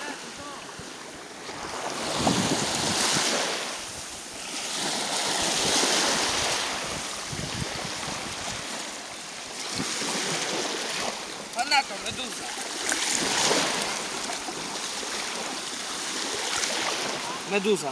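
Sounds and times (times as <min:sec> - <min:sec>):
wind buffeting microphone: 0:00.0 - 0:15.6
waves washing up a sandy shore: 0:00.0 - 0:17.9.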